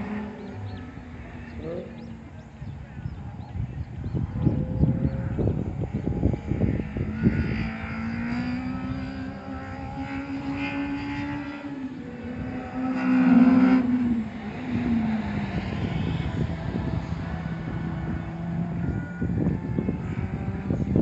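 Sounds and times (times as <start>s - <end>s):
car engine running under load: 0.0s - 21.0s.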